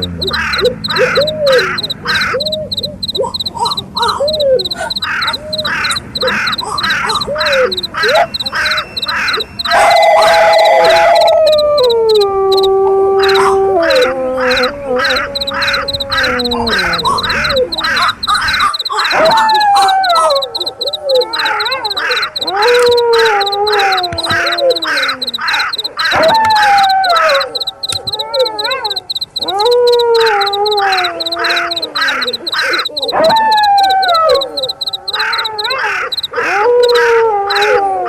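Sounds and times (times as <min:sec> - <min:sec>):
crows cawing: 0:00.0 - 0:11.8, 0:13.2 - 0:27.9, 0:28.8 - 0:37.8
crickets chirping: 0:00.0 - 0:37.8
wolf howls: 0:00.0 - 0:38.0.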